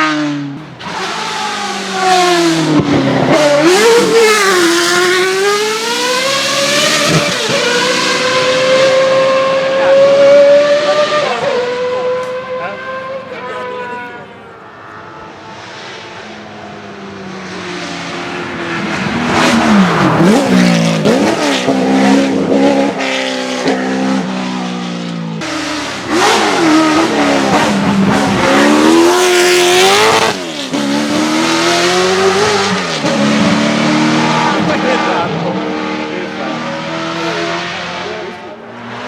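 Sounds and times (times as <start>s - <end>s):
race car engine revving past: 0.0s - 39.0s.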